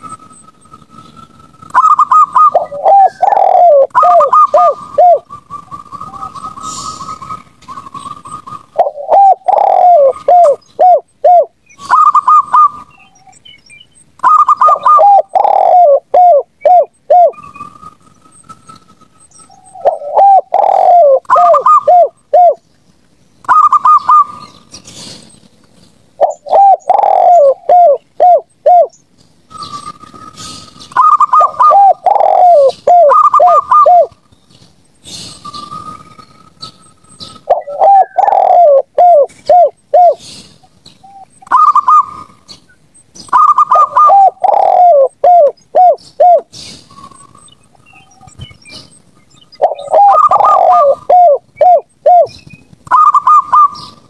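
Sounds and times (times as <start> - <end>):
doves cooing: 1.7 - 13.4, 14.2 - 18.0, 19.5 - 22.6, 23.4 - 25.4, 26.2 - 34.2, 35.0 - 54.0.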